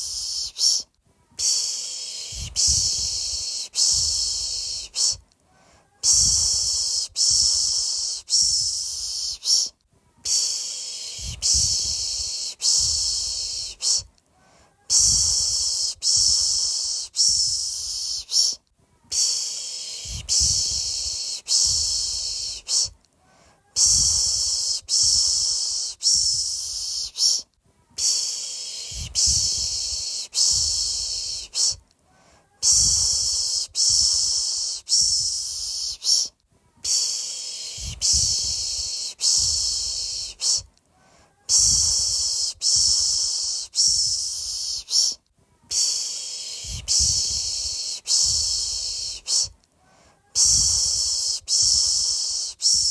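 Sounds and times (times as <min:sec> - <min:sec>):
person shushing a baby: 0:00.0 - 0:49.6, 0:50.2 - 0:52.9.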